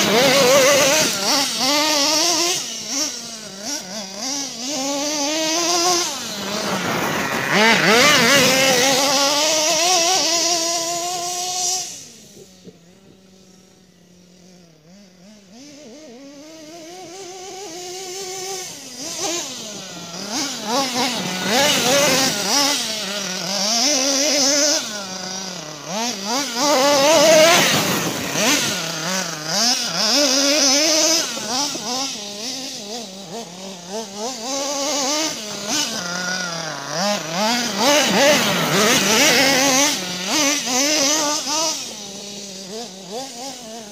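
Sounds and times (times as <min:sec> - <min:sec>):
toy truck engine revving: 0:00.0 - 0:43.9.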